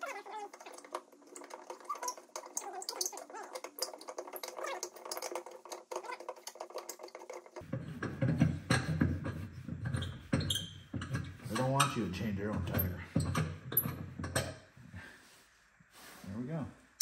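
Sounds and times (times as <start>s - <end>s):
clicking rattling and squeaking: 0.0s - 14.7s.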